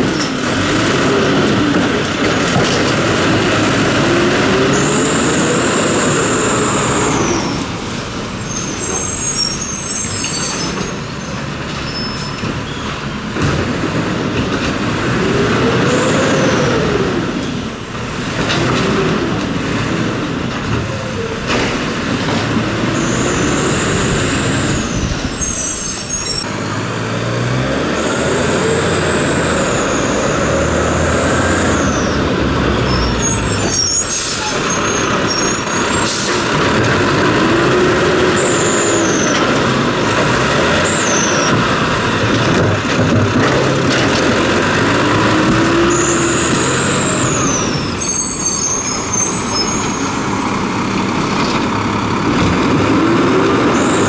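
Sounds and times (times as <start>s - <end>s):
garbage truck engine revving: 0.0s - 10.8s, 12.4s - 54.0s.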